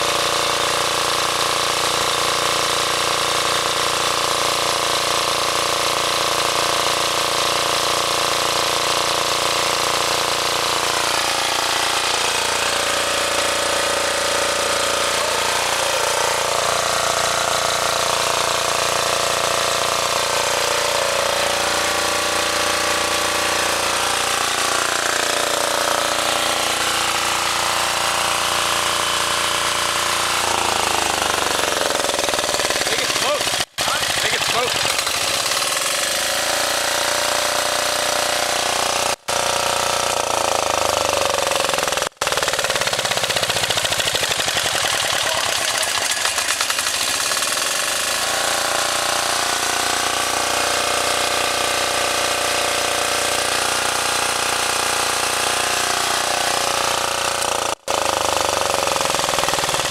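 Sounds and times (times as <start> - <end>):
diesel generator running: 0.0 - 59.9.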